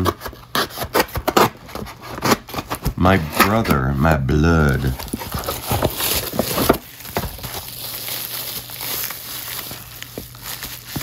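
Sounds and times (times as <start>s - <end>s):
envelope and bubble wrap crinkling: 0.0s - 11.0s.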